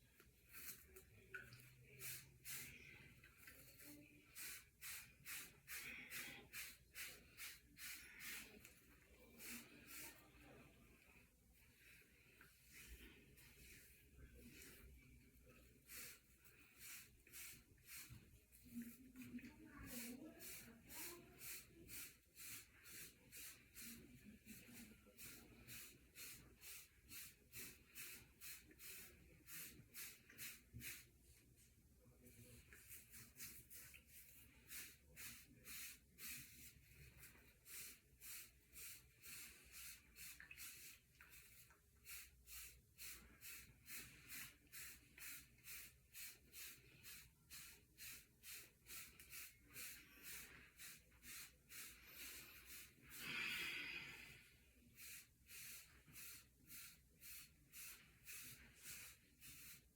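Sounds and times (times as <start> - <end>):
hair brush swishing through hair: 0.0 - 53.8, 54.7 - 59.9.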